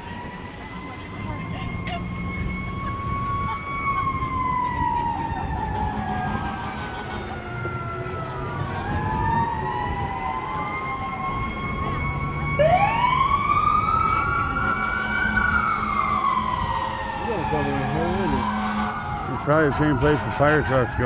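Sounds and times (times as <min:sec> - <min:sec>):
emergency sirens wailing: 0:00.0 - 0:21.0
loud siren sweeping up: 0:00.0 - 0:21.0.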